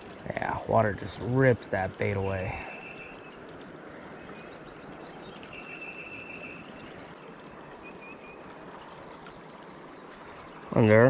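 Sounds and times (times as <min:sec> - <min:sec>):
fast-flowing creek water: 0:00.0 - 0:11.0.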